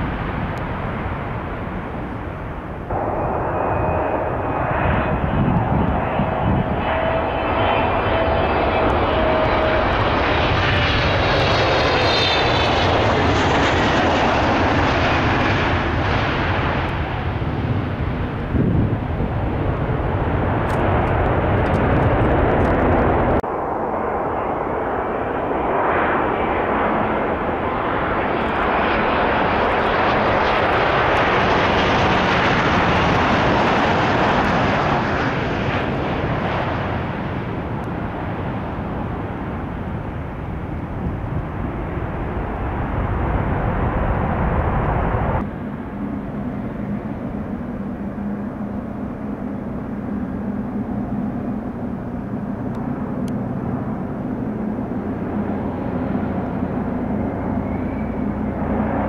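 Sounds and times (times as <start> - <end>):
jet engine noise: 0.0 - 59.0
jet engines passing: 0.0 - 59.0.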